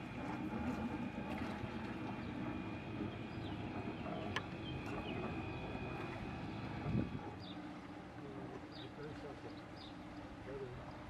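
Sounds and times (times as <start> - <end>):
boat diesel engine humming: 0.0 - 11.0.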